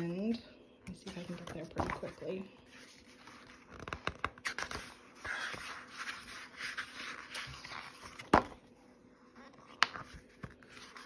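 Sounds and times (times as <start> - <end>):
book pages turning: 1.0 - 11.0.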